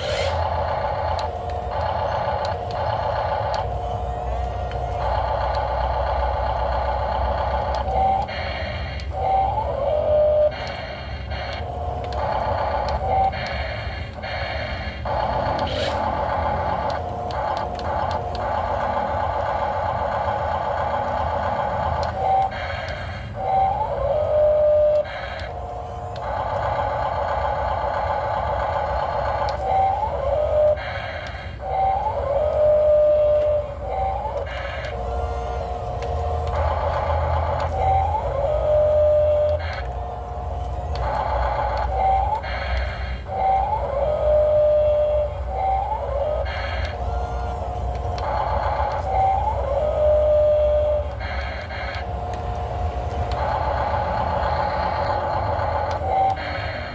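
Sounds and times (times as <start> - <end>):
hydraulic pump whining: 0.0 - 56.9.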